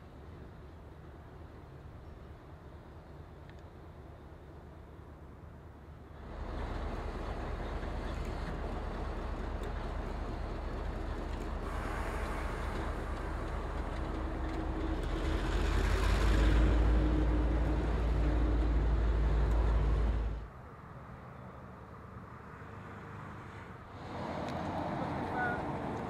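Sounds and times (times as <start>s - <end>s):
diesel locomotive engine rumbling: 0.0s - 20.8s, 23.8s - 26.0s.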